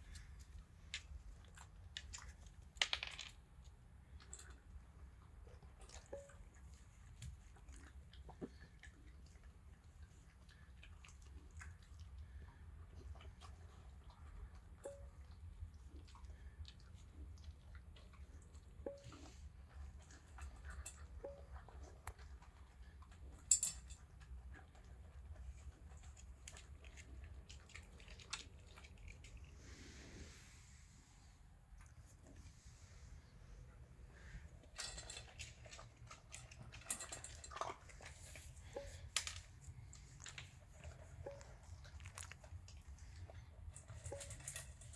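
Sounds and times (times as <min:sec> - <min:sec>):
dog chewing crunchy kibble: 0:00.0 - 0:29.6, 0:33.6 - 0:44.9.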